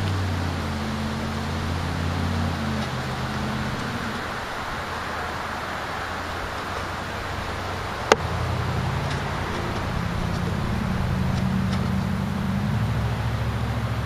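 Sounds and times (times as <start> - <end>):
motor-like hum: 0.0 - 14.0.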